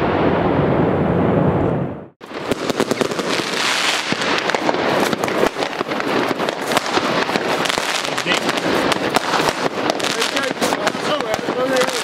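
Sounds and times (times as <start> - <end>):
fireworks crackling and banging: 2.2 - 12.0.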